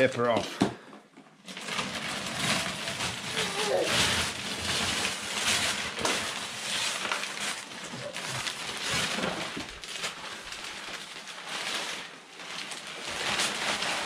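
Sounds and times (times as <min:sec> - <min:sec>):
wrapping paper rustling: 0:01.4 - 0:14.0.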